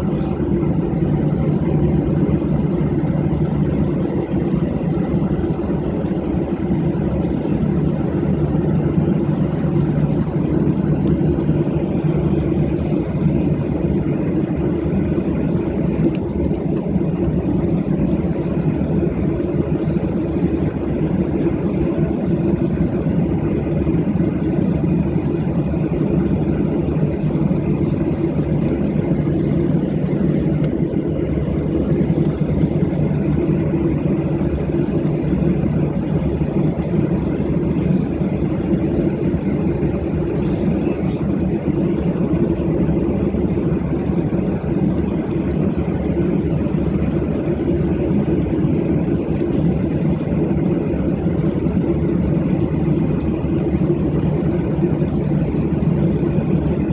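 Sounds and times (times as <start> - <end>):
jet engines rumbling in cabin: 0.0 - 56.9.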